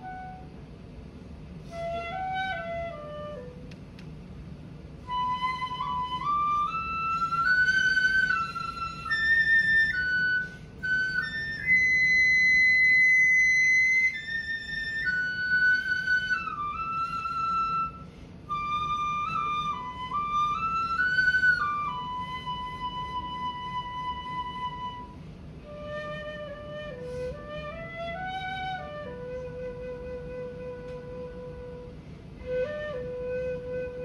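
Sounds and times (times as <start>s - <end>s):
bamboo flute solo melody: 0.0s - 0.7s, 1.6s - 4.0s, 5.0s - 34.0s.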